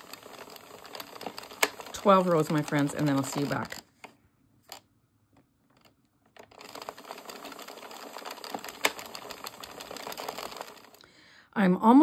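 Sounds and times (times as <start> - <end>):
knitting machine clattering: 0.0 - 4.8, 5.6 - 11.0.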